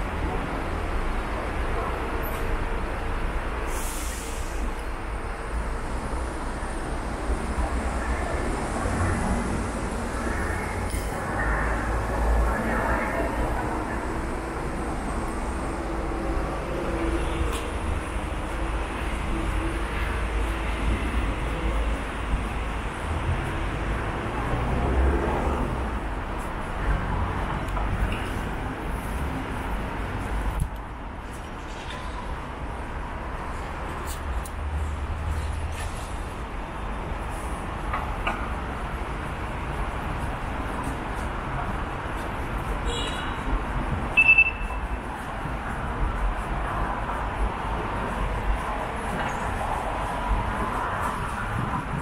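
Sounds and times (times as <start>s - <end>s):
traffic on wet roads: 0.0s - 52.0s.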